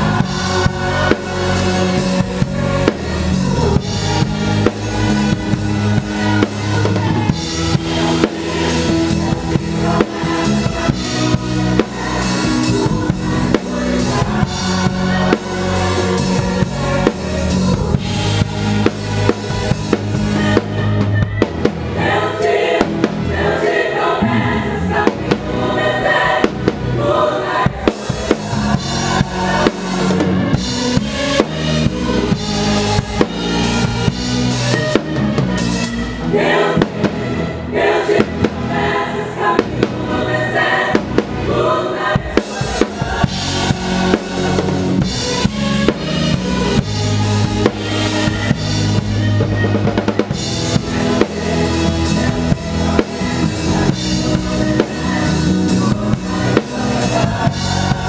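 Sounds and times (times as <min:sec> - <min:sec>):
bass: 0:00.0 - 0:58.0
drum kit beat: 0:00.0 - 0:58.0
group singing: 0:00.0 - 0:58.0
guitar: 0:00.0 - 0:58.0.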